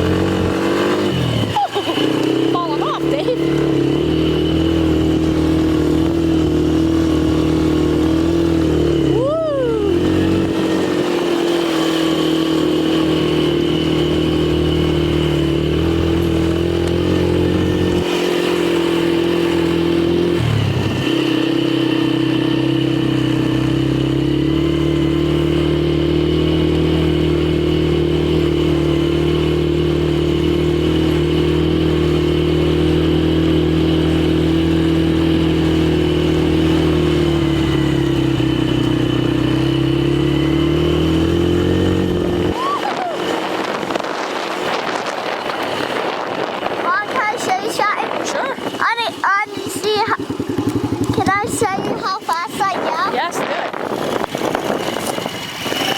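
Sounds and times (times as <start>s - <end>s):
quad engine revving: 0.0s - 55.9s.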